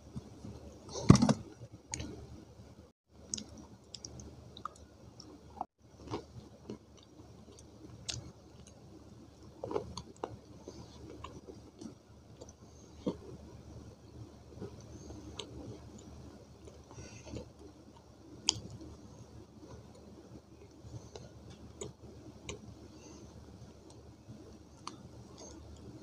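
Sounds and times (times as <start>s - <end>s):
close chewing with small crunches: 3.2s - 13.6s, 14.2s - 26.0s.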